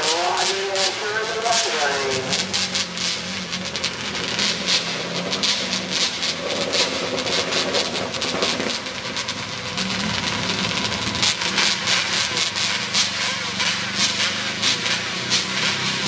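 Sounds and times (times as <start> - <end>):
crackling hiss: 0.0 - 15.9
distant engine running: 0.0 - 16.0.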